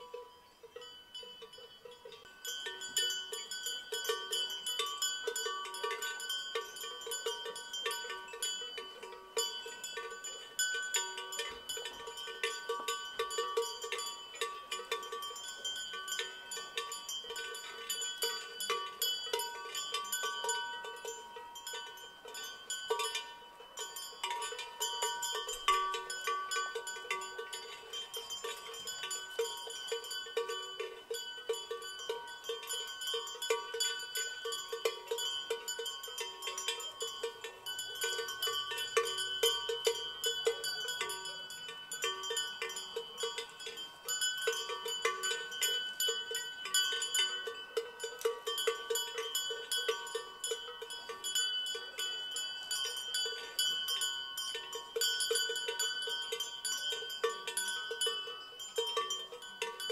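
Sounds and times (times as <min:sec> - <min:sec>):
livestock bells clanking: 0:00.0 - 0:59.9.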